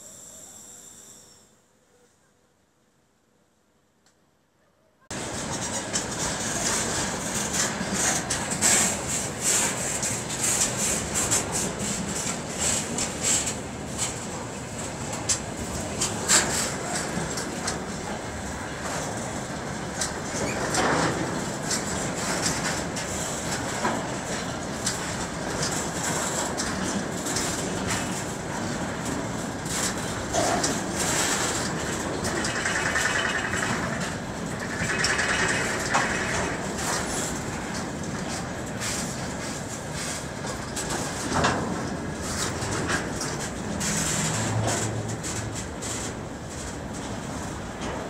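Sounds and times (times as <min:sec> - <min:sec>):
freight train wagons rumbling: 0:05.1 - 0:48.0
wheels clattering over rail joints: 0:05.2 - 0:48.0.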